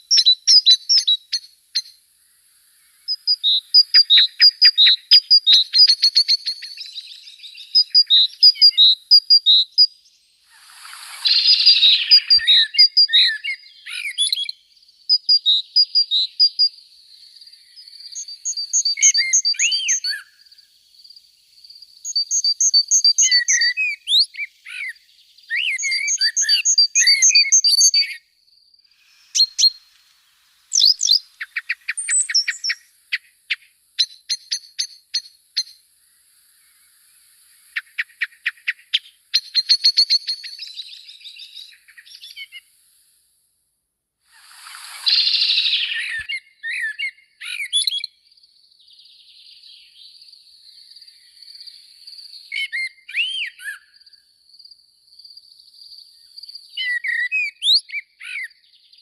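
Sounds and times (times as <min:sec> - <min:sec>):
small birds chirping: 0:00.0 - 0:43.0, 0:44.3 - 0:59.0.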